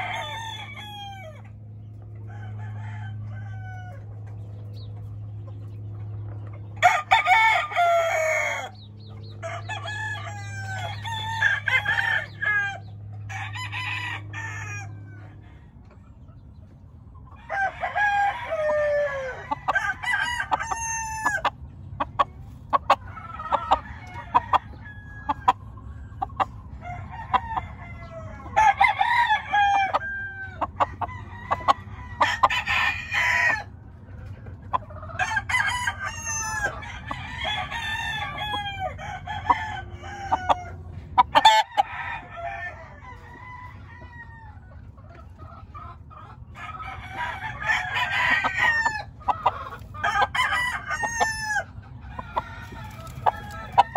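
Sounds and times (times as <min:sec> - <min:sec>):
roosters crowing: 0:00.0 - 0:05.0, 0:06.6 - 0:53.9.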